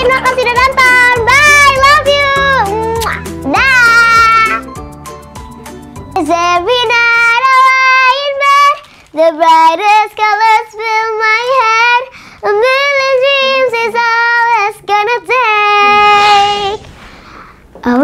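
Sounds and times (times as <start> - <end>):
girl singing unaccompanied: 0.0 - 4.7, 6.1 - 16.9.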